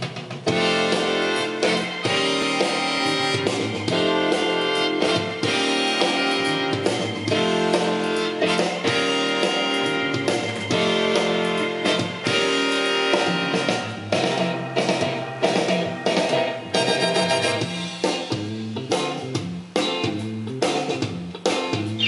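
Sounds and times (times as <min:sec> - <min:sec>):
instrumental music over loudspeakers: 0:00.0 - 0:22.0
steady beat: 0:00.0 - 0:22.0.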